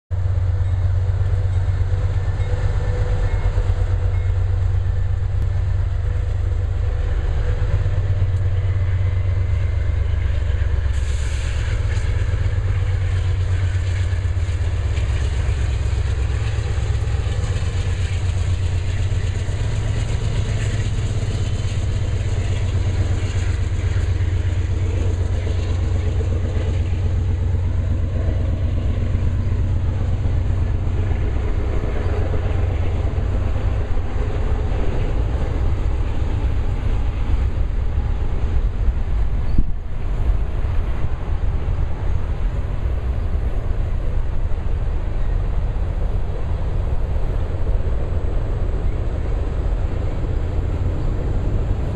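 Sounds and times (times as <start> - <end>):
diesel locomotives rumbling: 0.0 - 51.9
train wheel and rail noise: 0.1 - 51.9.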